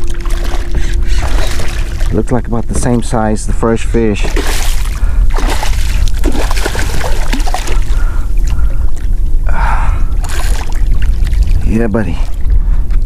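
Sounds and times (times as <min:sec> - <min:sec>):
low rumble: 0:00.0 - 0:13.0
water splashing and sloshing: 0:00.0 - 0:13.0.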